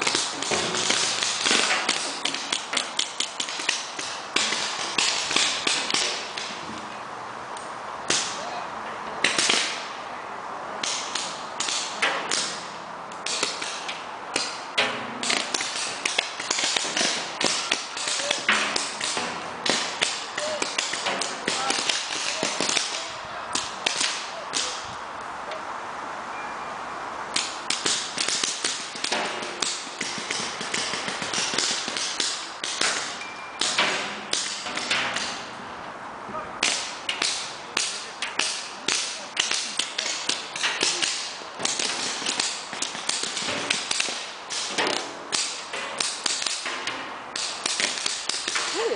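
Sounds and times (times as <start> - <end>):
paintball markers firing: 0.0 - 6.6, 9.2 - 9.9, 10.8 - 12.6, 13.2 - 14.6, 15.2 - 24.8, 27.3 - 35.5, 36.6 - 48.8.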